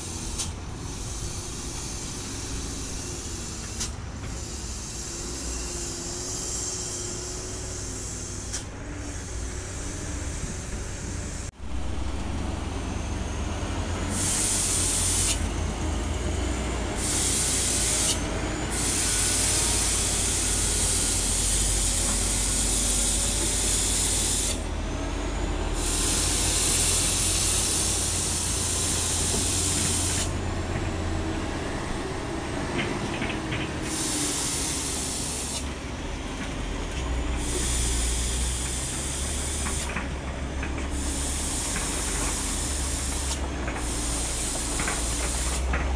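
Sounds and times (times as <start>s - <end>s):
loud hiss: 0.0s - 32.8s, 33.7s - 36.0s, 37.0s - 45.8s
diesel truck engine under load: 0.0s - 45.9s.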